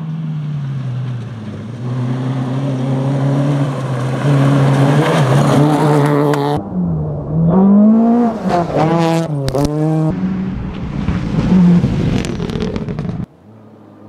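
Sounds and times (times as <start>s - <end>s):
rally car engine revving: 0.0s - 13.3s.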